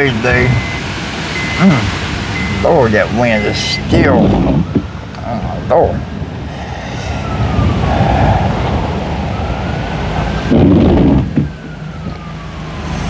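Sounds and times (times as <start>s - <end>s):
distant siren wailing: 0.0s - 13.0s
wind rumbling on microphone: 0.1s - 13.0s.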